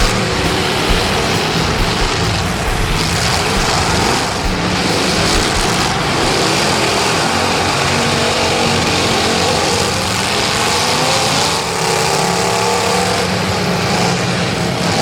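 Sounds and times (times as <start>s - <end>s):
car engines running hard: 0.0s - 15.0s.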